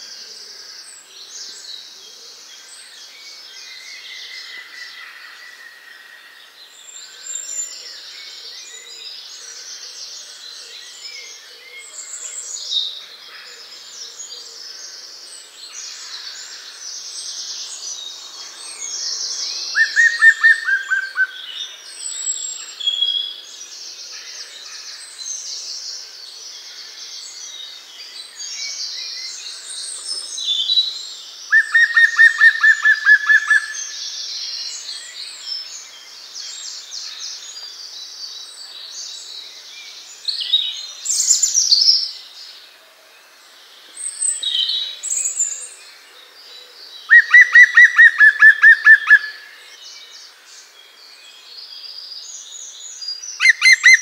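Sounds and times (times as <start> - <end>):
birds chirping chorus: 0.0 - 54.0.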